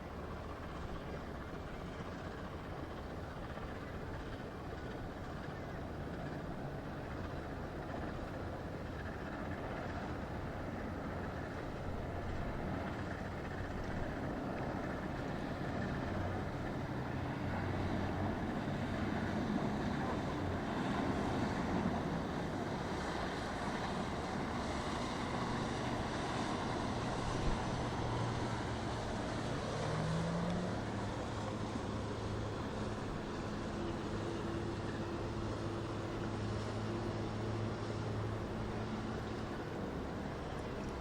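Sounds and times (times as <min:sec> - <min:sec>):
boat engines humming: 0:00.0 - 0:41.0
water noise: 0:00.0 - 0:41.0
wind: 0:00.0 - 0:41.0.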